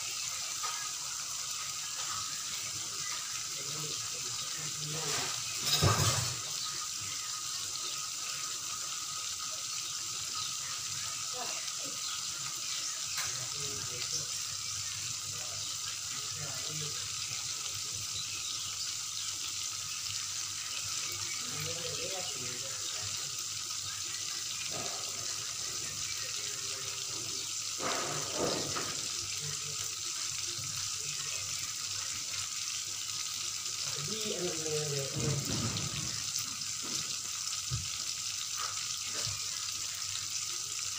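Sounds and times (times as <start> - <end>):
oil popping: 0.0 - 40.9
paste sizzling in oil: 0.0 - 40.9.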